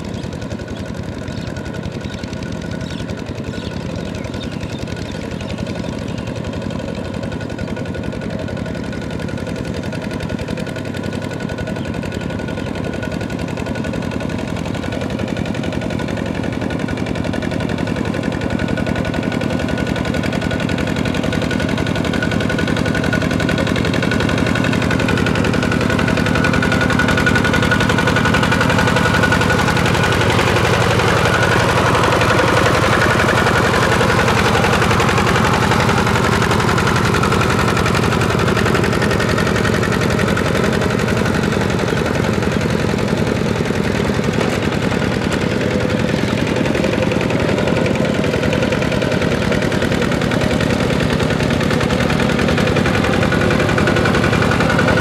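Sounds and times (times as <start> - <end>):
diesel engine putt-putt: 0.0 - 55.0.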